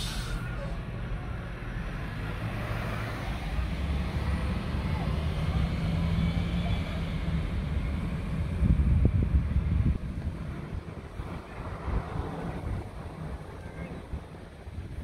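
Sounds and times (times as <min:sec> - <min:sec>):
bus engines rumbling: 0:00.0 - 0:15.0.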